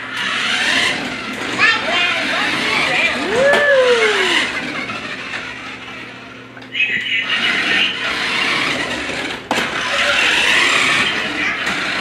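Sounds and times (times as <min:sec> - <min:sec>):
toy car motor whirring: 0:00.1 - 0:06.4, 0:07.0 - 0:12.0.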